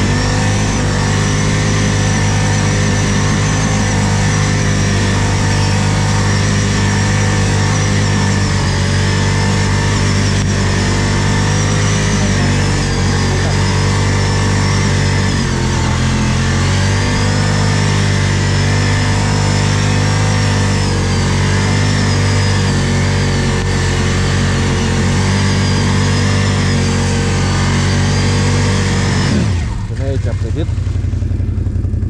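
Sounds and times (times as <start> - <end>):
thin high whine: 0.0 - 29.4
atv engine running: 0.0 - 32.0.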